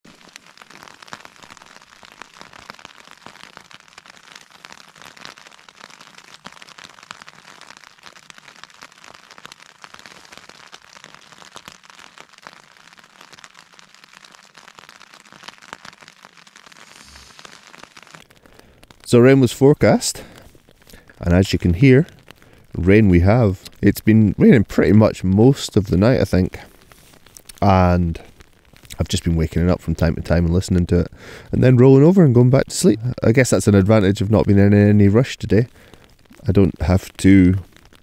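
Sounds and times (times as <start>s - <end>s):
rain pattering on tent fabric: 0.0s - 38.0s.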